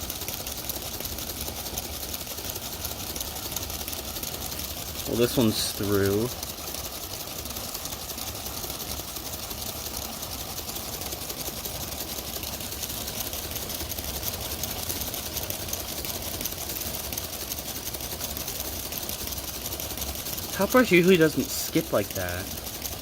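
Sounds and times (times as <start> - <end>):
electric motors whirring: 0.0 - 23.0
plastic gears ticking: 0.0 - 23.0.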